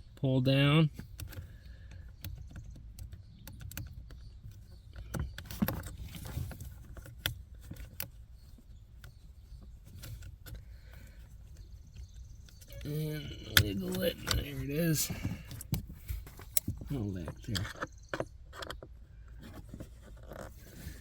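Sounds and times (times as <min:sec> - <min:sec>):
rattling and scraping: 0:03.8 - 0:21.0.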